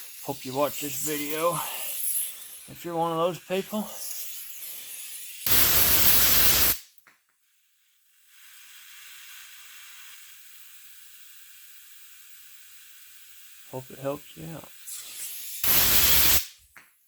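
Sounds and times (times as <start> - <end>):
aerosol spray burst: 0.0 - 7.0, 8.2 - 16.6
faint steady hiss: 0.0 - 16.8.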